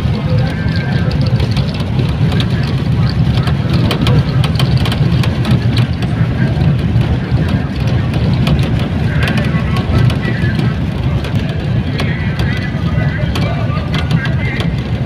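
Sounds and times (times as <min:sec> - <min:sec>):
bus engine and road rumble: 0:00.0 - 0:15.0
rattles and knocks: 0:00.0 - 0:15.0.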